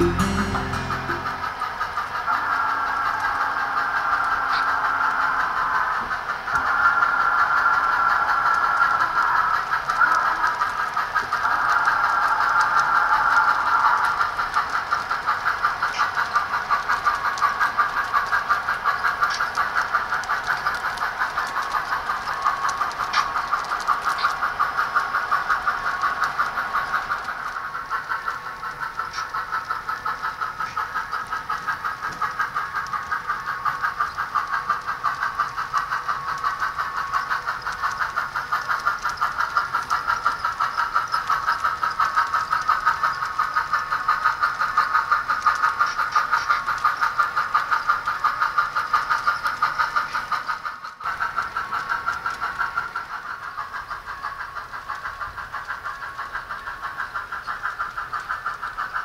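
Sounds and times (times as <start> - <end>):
model steam locomotive chuffing: 0.0 - 59.0.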